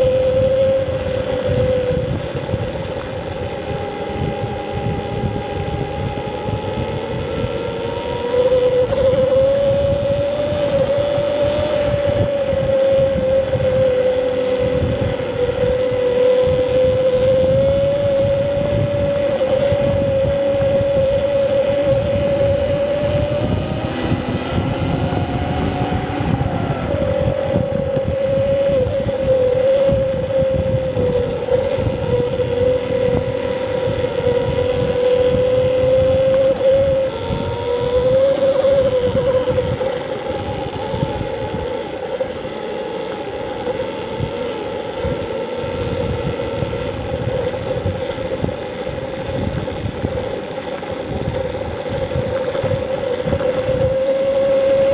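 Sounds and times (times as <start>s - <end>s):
electric motor whine: 0.0s - 54.9s.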